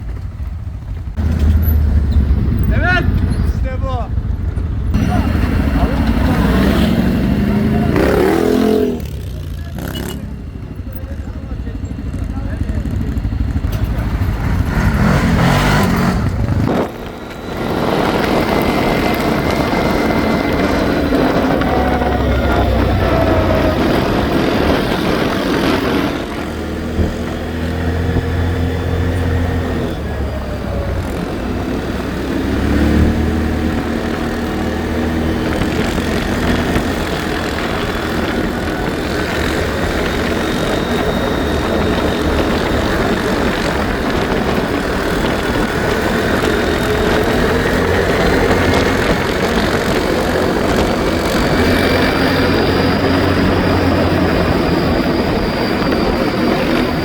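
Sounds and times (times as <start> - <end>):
atv engine running: 0.0 - 57.0
steady rush of noise: 0.0 - 57.0.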